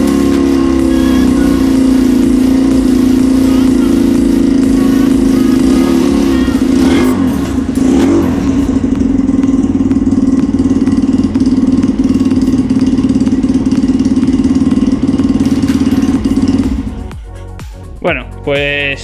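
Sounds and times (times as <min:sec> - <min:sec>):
motorbike engine with open exhaust: 0:00.0 - 0:17.2.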